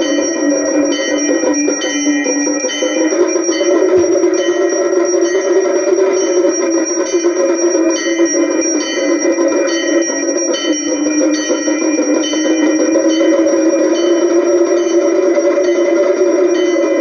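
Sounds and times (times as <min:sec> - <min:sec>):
metal temple bells ringing: 0:00.0 - 0:17.0
music: 0:00.0 - 0:17.0.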